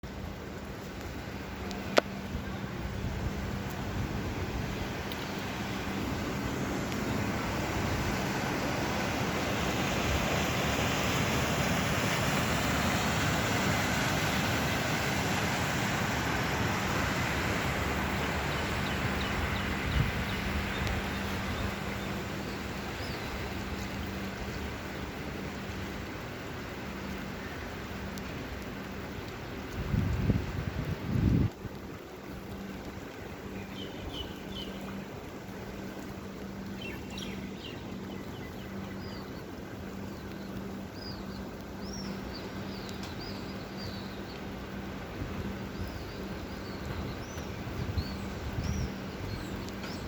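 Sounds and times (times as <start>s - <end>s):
rain hissing: 0.0s - 50.0s.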